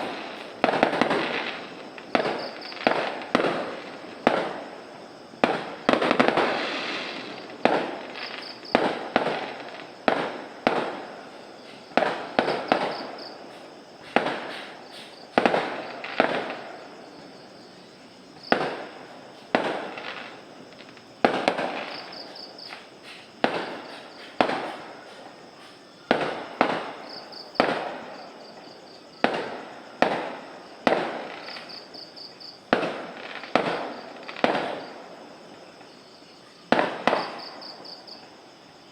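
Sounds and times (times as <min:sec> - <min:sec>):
fireworks banging: 0:00.0 - 0:17.2, 0:18.3 - 0:28.5, 0:29.2 - 0:31.9, 0:32.7 - 0:35.2, 0:36.7 - 0:38.0.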